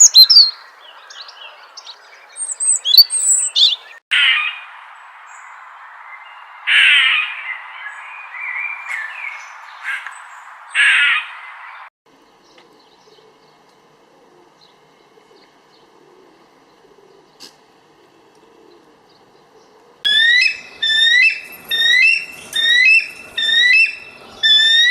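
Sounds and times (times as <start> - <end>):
bird calls: 0.0 - 4.6, 5.3 - 24.9.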